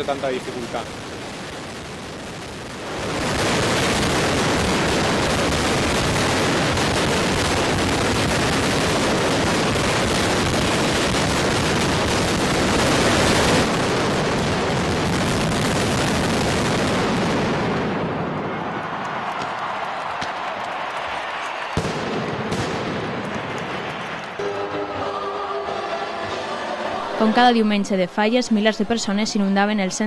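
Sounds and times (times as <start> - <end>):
firecrackers detonating: 0.0 - 24.5.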